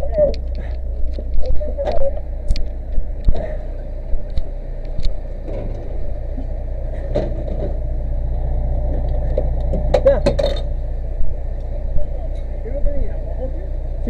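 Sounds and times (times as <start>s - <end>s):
fire engine motor humming: 0.0s - 14.0s.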